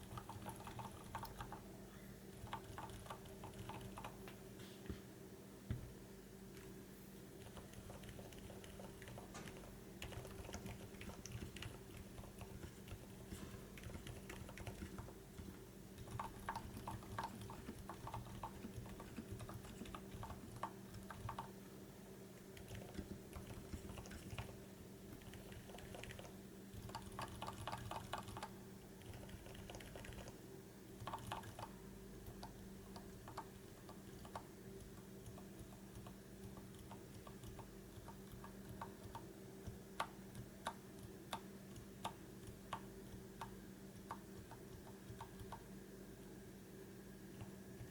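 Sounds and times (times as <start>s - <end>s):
muffled keyboard typing: 0.0s - 1.7s, 2.3s - 4.4s, 7.4s - 21.6s, 22.4s - 46.3s, 47.3s - 47.9s
faint steady hum: 0.0s - 47.9s.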